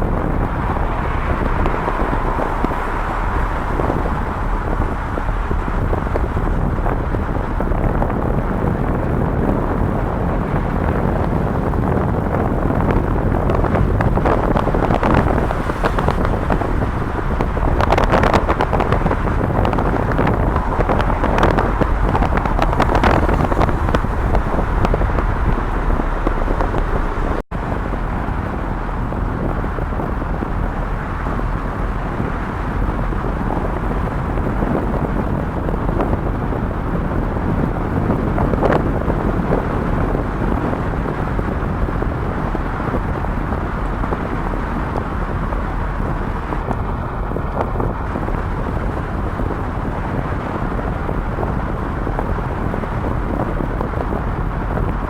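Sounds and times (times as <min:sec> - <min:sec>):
road traffic rumble: 0:00.0 - 0:55.0
wind buffeting microphone: 0:00.0 - 0:55.0.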